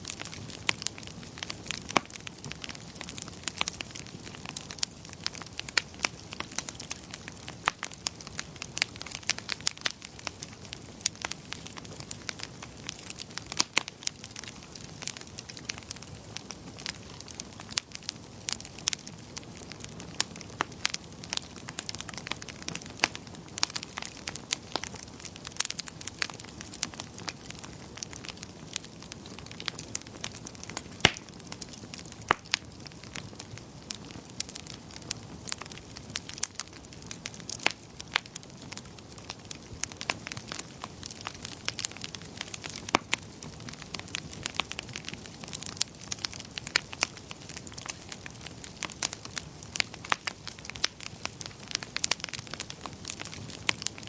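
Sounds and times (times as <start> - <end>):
fire pops and snaps: 0.0 - 54.0
wood fire crackling: 0.0 - 54.0.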